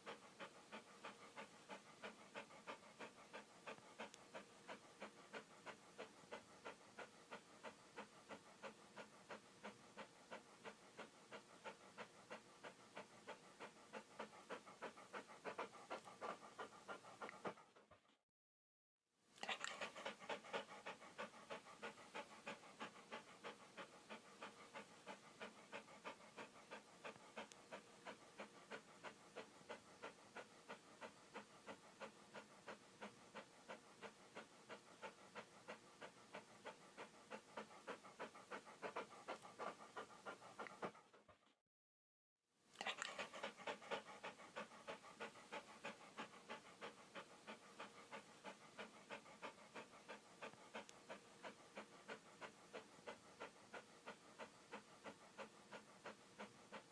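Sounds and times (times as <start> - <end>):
dog panting: 0.0 - 18.2, 19.4 - 41.6, 42.8 - 56.9.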